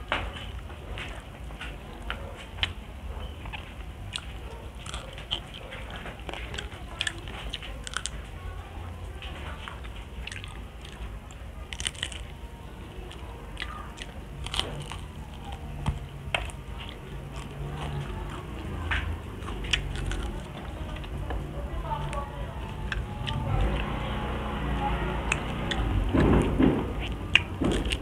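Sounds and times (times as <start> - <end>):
chewing crispy fried fish: 0.0 - 28.0.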